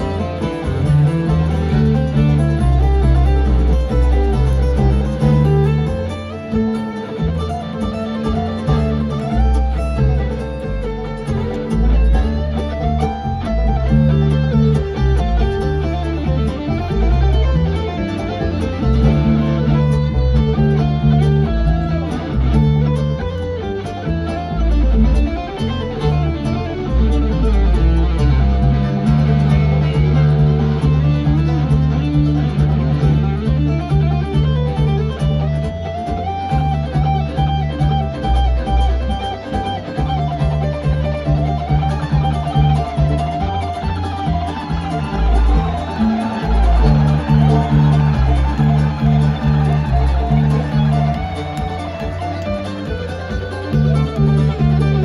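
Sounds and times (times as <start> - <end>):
fiddle: 0.0 - 55.0
picked guitar lines: 0.0 - 55.0
steady bass notes: 0.0 - 55.0.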